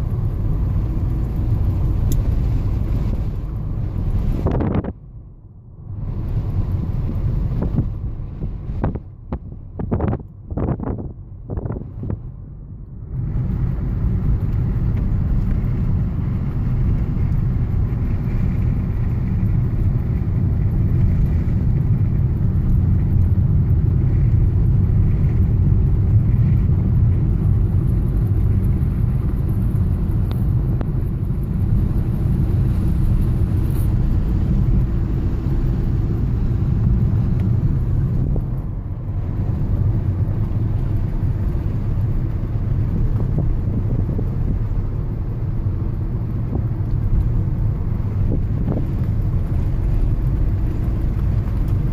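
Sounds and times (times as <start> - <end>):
tyre and engine rumble in car: 0.0 - 51.9.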